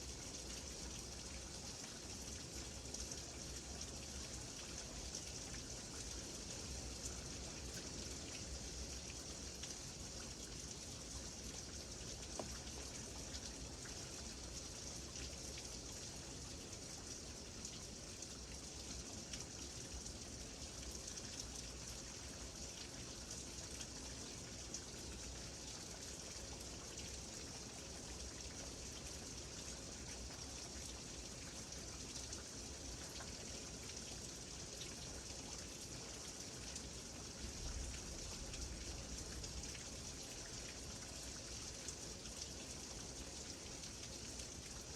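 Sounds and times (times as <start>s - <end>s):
rain pattering on a surface: 0.0s - 44.9s
steady rain hissing: 0.0s - 44.9s.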